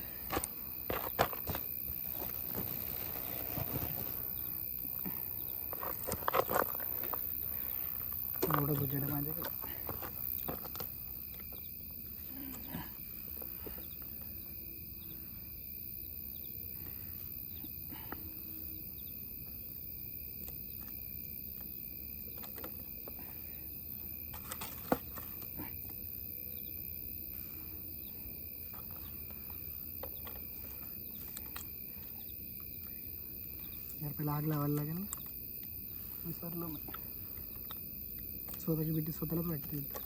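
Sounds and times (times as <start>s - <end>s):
crickets chirring: 0.0s - 40.0s.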